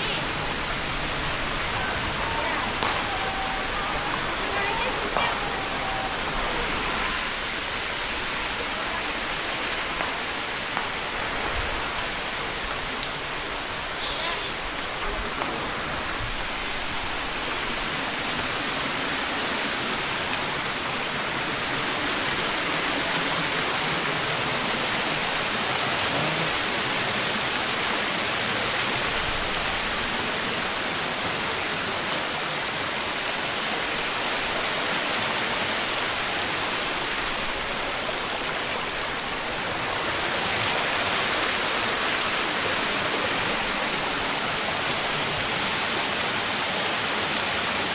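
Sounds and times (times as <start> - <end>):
water flowing: 0.0 - 47.9.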